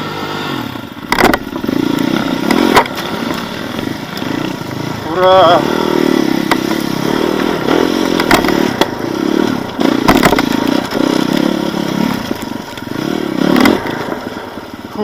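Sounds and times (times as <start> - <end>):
motorcycle engine revving: 0.0 - 15.0
knocks and clatter from bike: 1.0 - 4.7, 6.4 - 15.0.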